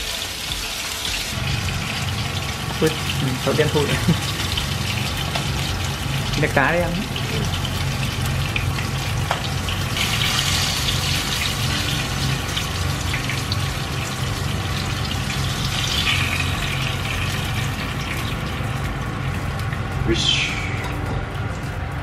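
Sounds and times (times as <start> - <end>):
oil sizzling in a frying pan: 0.0 - 22.0
low hum: 1.3 - 22.0.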